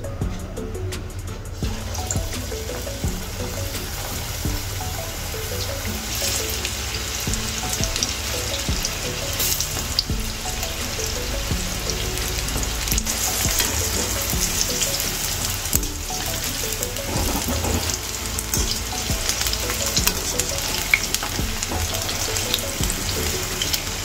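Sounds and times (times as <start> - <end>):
light background music: 0.0 - 24.0
oil bubbling and sizzling: 1.6 - 24.0.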